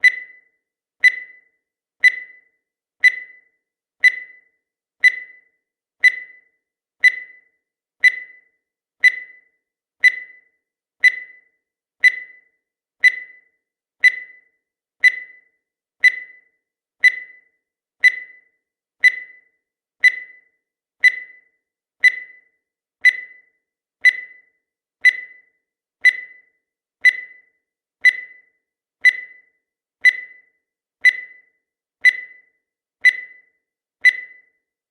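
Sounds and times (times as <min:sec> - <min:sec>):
countdown timer beeps: 0:00.0 - 0:34.7.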